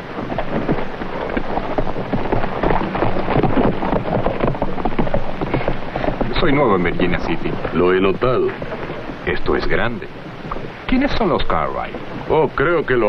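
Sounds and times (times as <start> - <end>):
horses galloping on dirt: 0.0 - 13.0.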